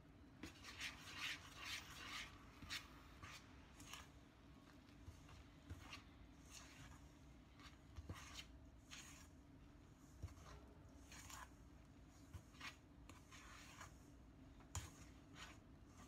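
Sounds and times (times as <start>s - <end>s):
stirring dough in metal bowl: 0.3s - 16.0s.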